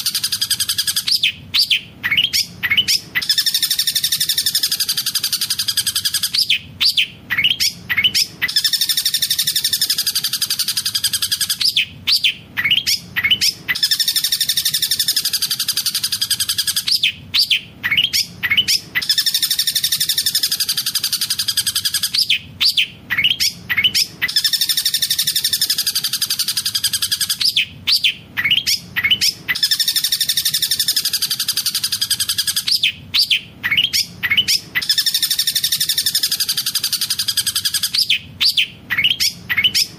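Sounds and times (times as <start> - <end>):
bird trilling: 0.0 - 39.9
sharp loud bird calls: 0.0 - 39.9.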